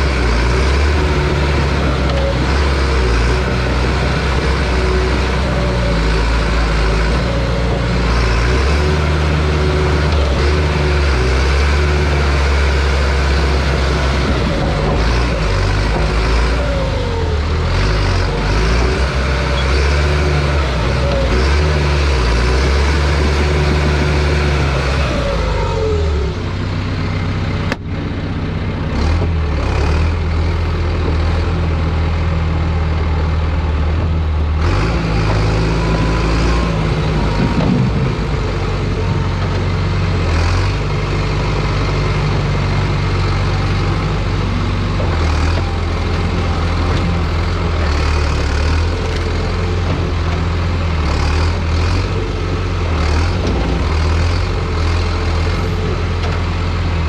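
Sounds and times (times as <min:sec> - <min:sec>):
bulldozer diesel engine running hard: 0:00.0 - 0:57.0.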